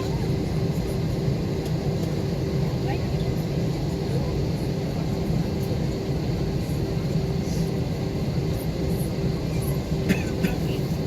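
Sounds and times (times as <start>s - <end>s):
low rumble of aircraft engines: 0.0s - 11.0s.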